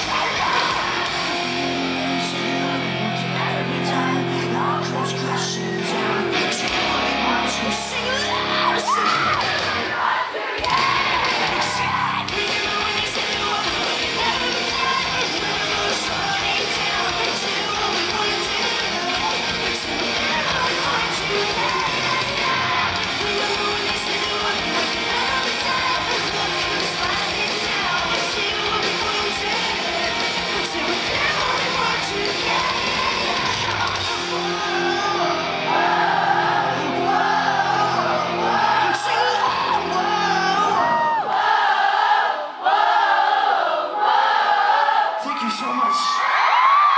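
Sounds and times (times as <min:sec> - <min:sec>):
person singing: 0:00.0 - 0:09.7, 0:10.6 - 0:41.3
electric guitars: 0:00.0 - 0:41.3
drums: 0:00.0 - 0:42.8
crowd singing along: 0:00.0 - 0:45.7.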